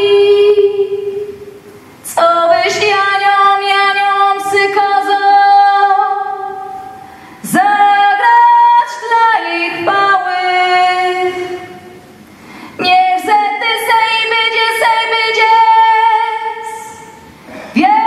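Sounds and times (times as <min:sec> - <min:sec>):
woman singing a carol: 0:00.0 - 0:01.4, 0:02.1 - 0:12.0, 0:12.8 - 0:17.2.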